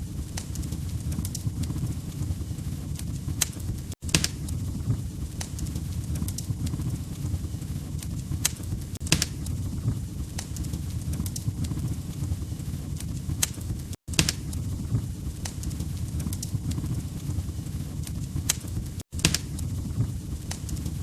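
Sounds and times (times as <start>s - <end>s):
low rumble of flames: 0.0s - 21.0s
logs popping and snapping: 0.3s - 2.3s, 2.9s - 4.6s, 5.2s - 9.6s, 10.2s - 12.3s, 12.9s - 14.7s, 15.4s - 19.8s, 20.4s - 21.0s.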